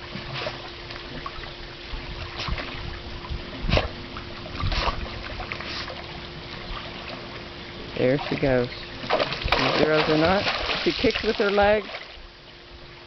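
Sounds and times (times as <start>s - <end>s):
faint steady hum: 0.0s - 13.0s
pool water lapping and splashing: 0.0s - 13.0s.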